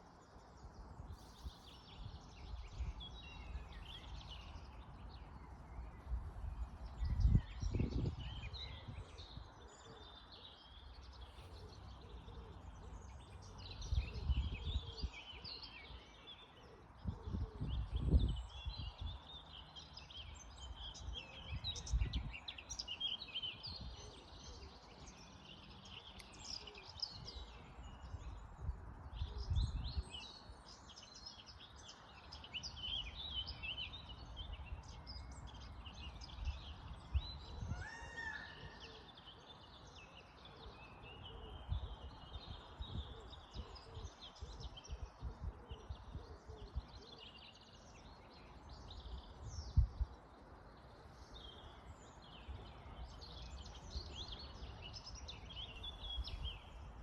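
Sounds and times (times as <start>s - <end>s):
birds chirping in chorus: 0.0s - 57.0s.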